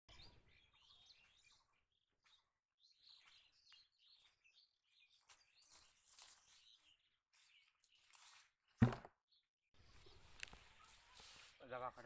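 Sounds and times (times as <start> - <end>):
faint birds chirping: 0.1 - 12.0.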